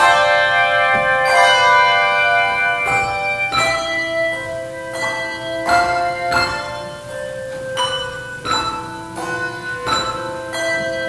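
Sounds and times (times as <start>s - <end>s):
handbell choir ringing chords: 0.0s - 11.0s.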